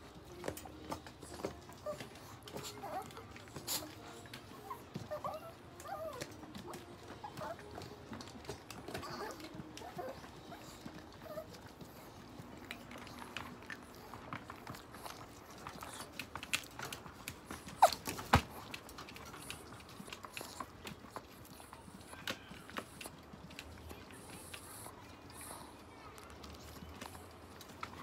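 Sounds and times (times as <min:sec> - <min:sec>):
dogs' light clicks and taps: 0:00.0 - 0:28.0.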